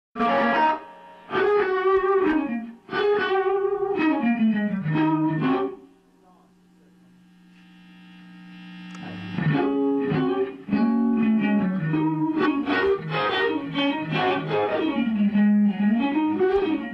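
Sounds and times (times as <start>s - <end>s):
bluesy electric guitar solo: 0.2s - 5.9s, 9.0s - 16.9s.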